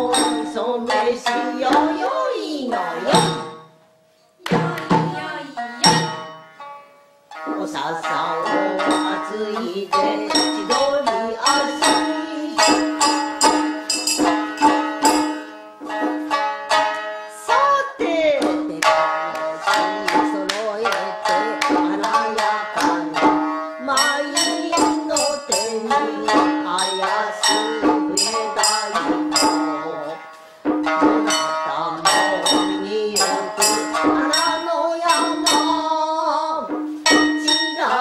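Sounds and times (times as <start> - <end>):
person singing: 0.0 - 3.6, 4.4 - 6.3, 7.4 - 16.3, 17.3 - 30.4, 31.0 - 38.0
drum accompaniment: 0.0 - 6.6, 7.3 - 38.0
shamisen plucked notes: 0.0 - 38.0.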